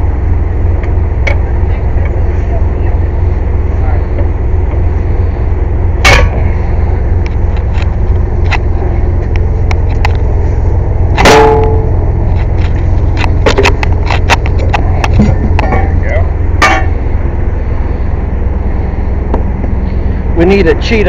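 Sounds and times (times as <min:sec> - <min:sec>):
air compressor droning: 0:00.0 - 0:21.0.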